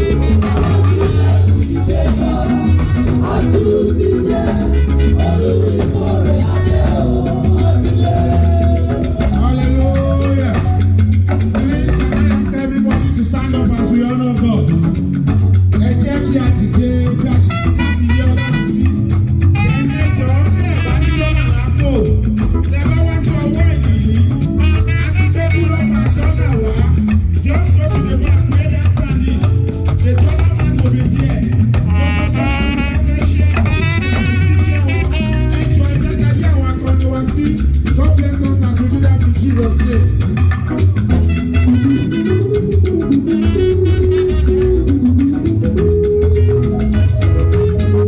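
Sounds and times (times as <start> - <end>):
heavy bass line: 0.0 - 48.0
lively music with singing: 0.0 - 48.0.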